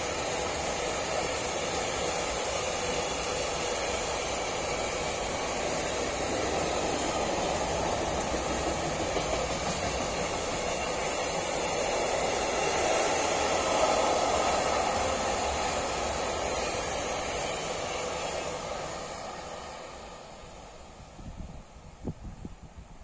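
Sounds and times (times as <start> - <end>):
train wheels rumbling on rails: 0.0 - 22.7.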